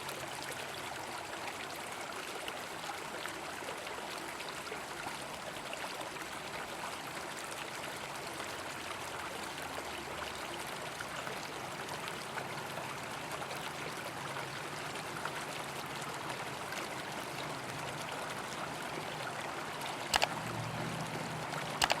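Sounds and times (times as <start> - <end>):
flowing river water: 0.0 - 22.0.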